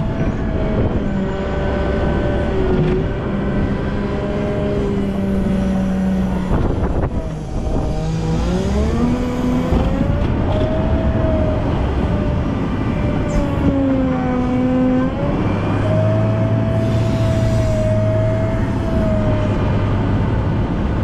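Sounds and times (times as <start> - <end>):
wheel loader diesel engine revving: 0.0 - 21.0.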